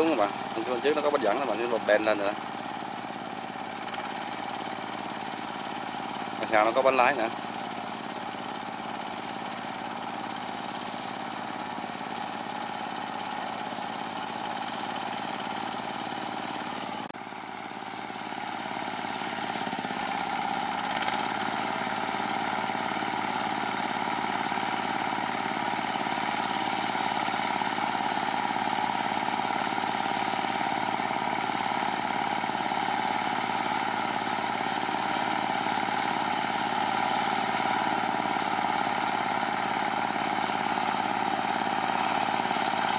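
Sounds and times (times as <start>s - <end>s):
tractor diesel engine under load: 0.0s - 42.9s
wheels churning through mud: 0.0s - 42.9s.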